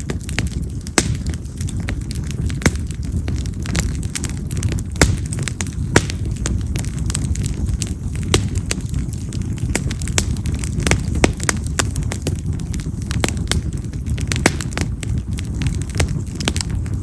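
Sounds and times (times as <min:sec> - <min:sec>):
low rush of flame: 0:00.0 - 0:17.0
wood crackling and popping: 0:00.0 - 0:17.0.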